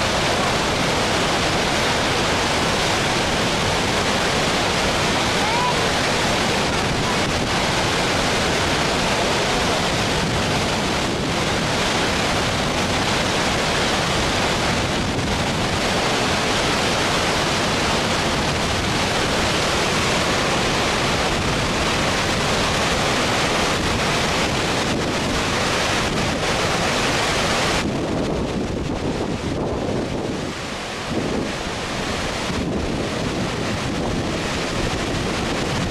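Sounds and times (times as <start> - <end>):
water rushing over a weir: 0.0 - 35.9.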